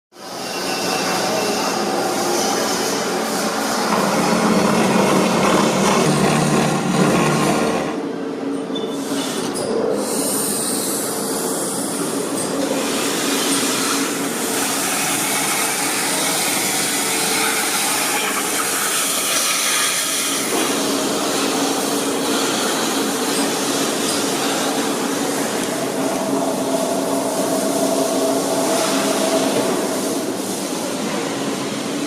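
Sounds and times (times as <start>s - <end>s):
steady machine hum: 0.2s - 8.6s, 10.6s - 32.0s.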